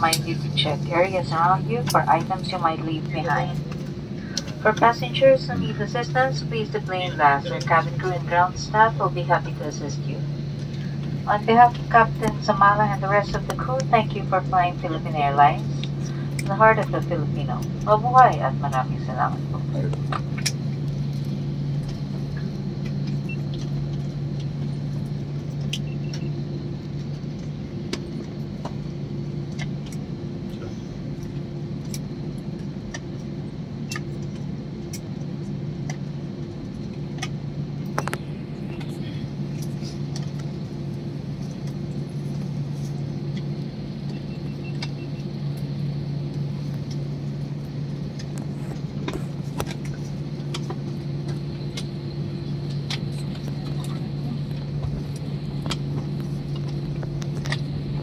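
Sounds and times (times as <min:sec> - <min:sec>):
airliner engine hum and rumble: 0:00.0 - 0:58.0.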